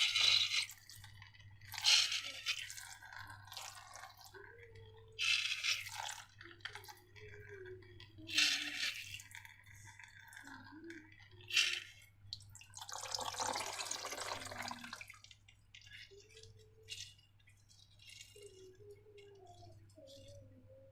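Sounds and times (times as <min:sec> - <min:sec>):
wet slime squelching: 0:00.0 - 0:20.9.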